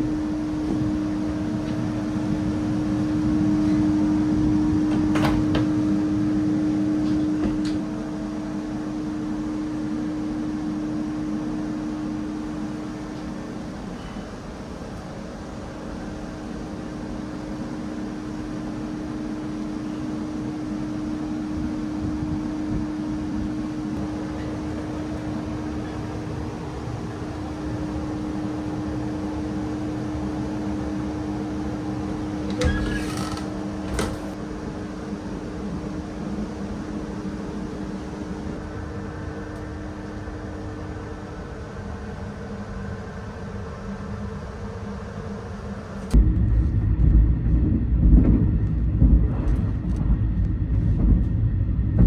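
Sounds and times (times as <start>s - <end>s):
train rumbling: 0.0s - 52.0s
ventilation hum: 0.0s - 52.0s.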